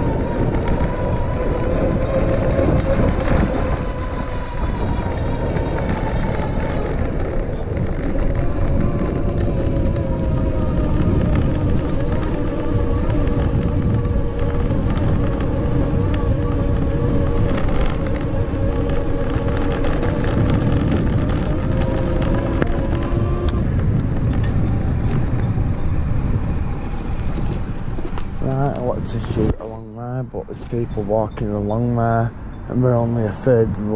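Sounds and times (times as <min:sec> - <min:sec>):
electric hub motor whining: 0:00.0 - 0:33.9
rumble of wind and tyres on gravel: 0:00.0 - 0:33.9.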